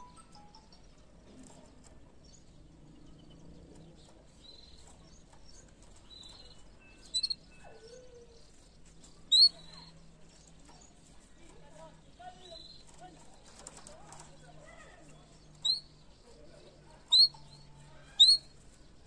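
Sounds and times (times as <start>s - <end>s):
canary chirps: 0.0s - 19.0s.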